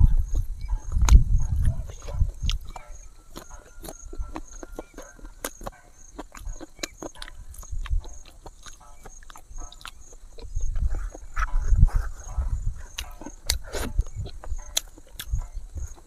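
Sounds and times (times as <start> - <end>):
chewing and lip-smacking: 0.0 - 16.0.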